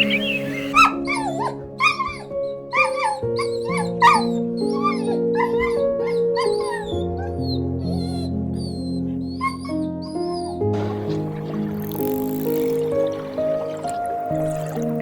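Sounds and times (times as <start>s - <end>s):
gentle piano and guitar music: 0.0s - 15.0s.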